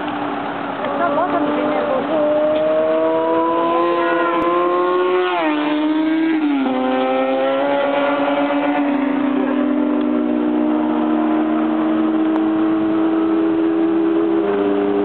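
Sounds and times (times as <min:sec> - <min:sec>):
motorcycle passing at high revs: 0:00.0 - 0:15.0.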